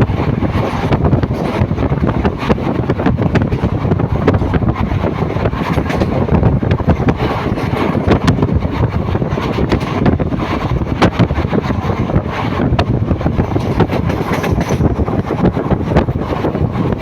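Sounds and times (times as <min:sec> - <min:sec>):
sharp clicks and rattles: 0:00.0 - 0:17.0
train running: 0:00.0 - 0:17.0.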